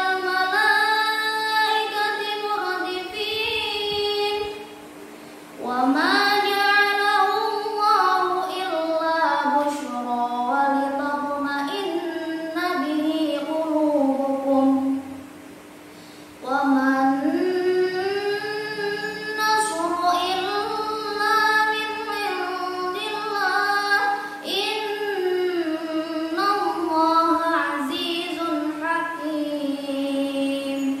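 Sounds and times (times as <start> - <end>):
girl chanting recitation: 0.0 - 4.8, 5.6 - 15.1, 16.4 - 31.0.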